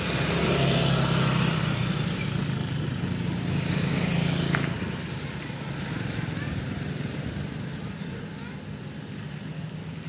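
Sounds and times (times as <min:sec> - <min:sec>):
motorcycles passing: 0:00.0 - 0:10.0
vehicle engine running: 0:00.0 - 0:10.0.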